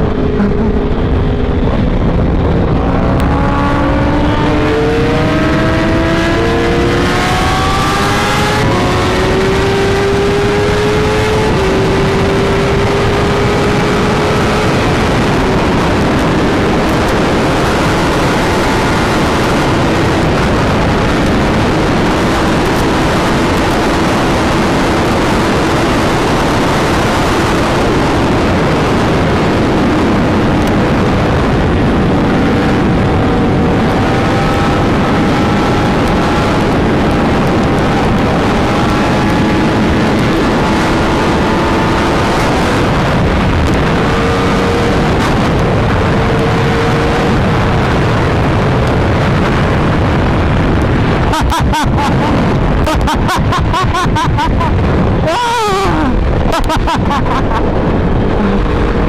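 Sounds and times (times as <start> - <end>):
motorcycle engine: 0.0 - 59.0
wind rush over microphone: 0.0 - 59.0.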